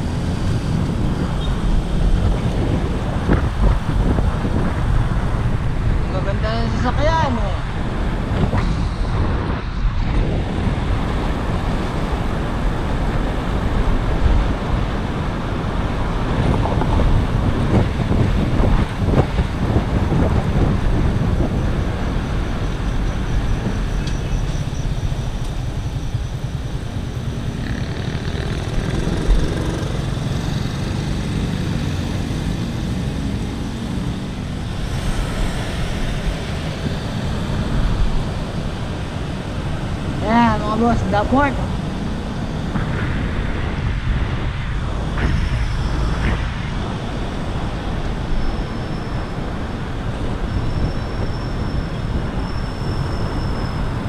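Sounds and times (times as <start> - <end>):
city road traffic: 0.0 - 54.0.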